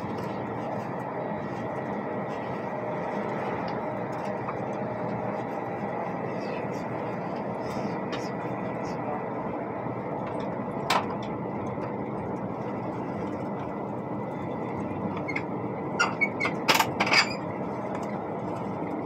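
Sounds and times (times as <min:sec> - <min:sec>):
high-speed train running noise: 0:00.0 - 0:19.0.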